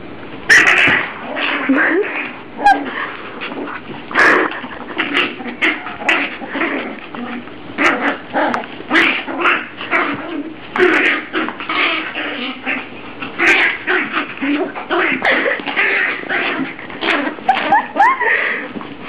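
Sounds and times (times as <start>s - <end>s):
dogs play-fighting vocalizations: 0.5s - 19.0s.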